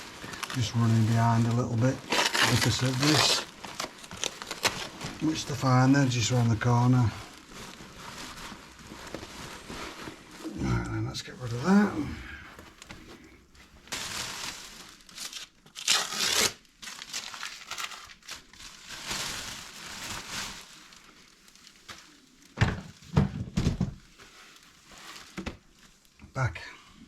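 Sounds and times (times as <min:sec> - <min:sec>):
dry debris rustling and crunching: 0:00.0 - 0:23.2, 0:23.9 - 0:26.5.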